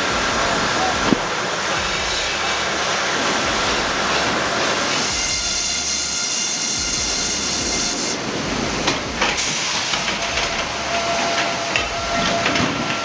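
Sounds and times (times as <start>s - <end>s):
sawmill machinery noise: 0.0s - 13.0s
sharp metal clanks: 0.0s - 13.0s
steam hiss: 0.0s - 13.0s.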